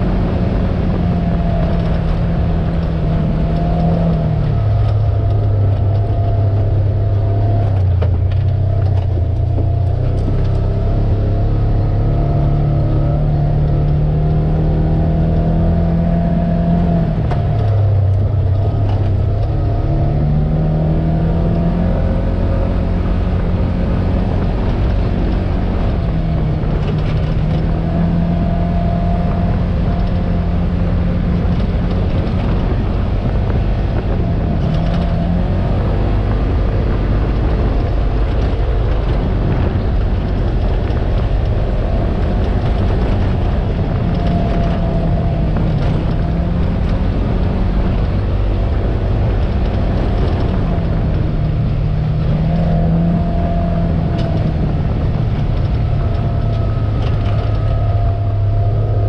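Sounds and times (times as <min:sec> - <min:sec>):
utility vehicle engine revving: 0:00.0 - 0:59.0.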